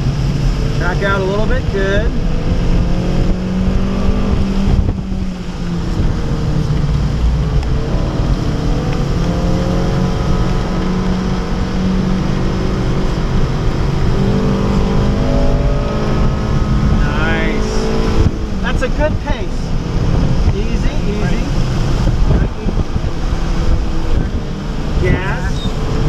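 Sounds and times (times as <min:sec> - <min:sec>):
car engine revving under load: 0:00.0 - 0:26.0
road and wind noise: 0:00.0 - 0:26.0.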